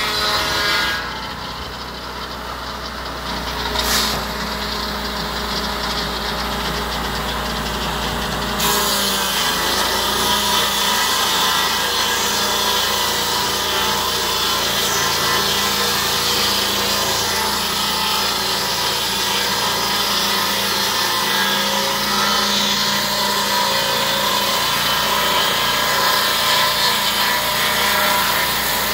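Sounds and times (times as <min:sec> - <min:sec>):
saw blade cutting log: 0:00.0 - 0:28.9
sawmill engine and circular blade: 0:00.0 - 0:28.9.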